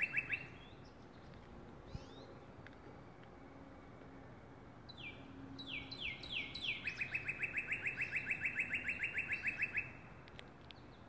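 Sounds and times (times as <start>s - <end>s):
songbird singing: 0.0s - 2.8s, 4.8s - 11.0s.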